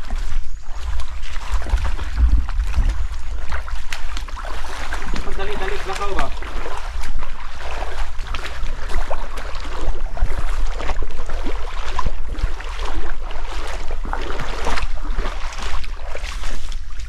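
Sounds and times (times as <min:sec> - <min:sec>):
footsteps splashing through stream: 0:00.0 - 0:17.0
wind rumbling on microphone: 0:00.0 - 0:17.0.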